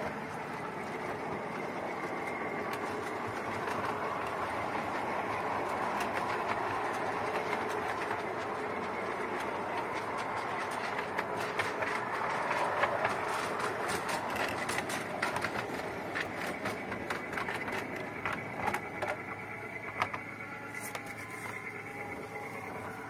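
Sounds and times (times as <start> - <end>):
faint steady whine: 0.0 - 23.0
steady rolling noise: 0.0 - 23.0
train wheels clicking over rail joints: 0.0 - 23.0.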